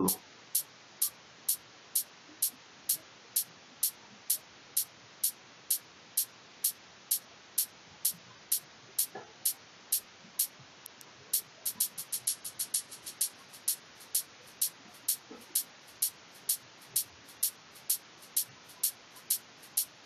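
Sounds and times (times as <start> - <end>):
electronic open hi-hat hits: 0.0 - 10.5, 11.3 - 20.0
faint noise hiss: 0.0 - 20.0.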